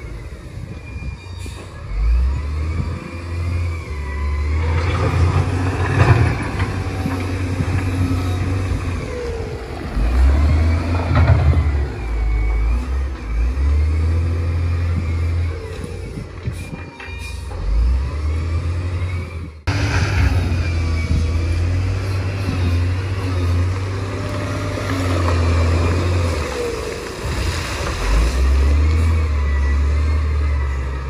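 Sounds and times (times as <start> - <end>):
diesel machinery engines revving: 0.0 - 31.0.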